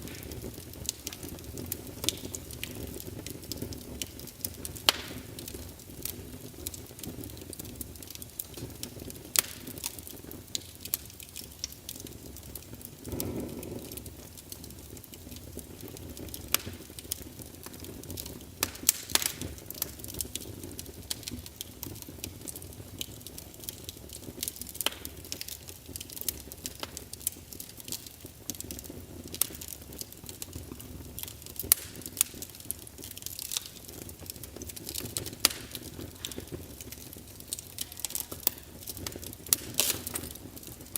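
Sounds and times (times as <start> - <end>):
whoosh of flames: 0.0 - 23.2, 31.2 - 40.9
wood logs crackling in fireplace: 0.0 - 40.9.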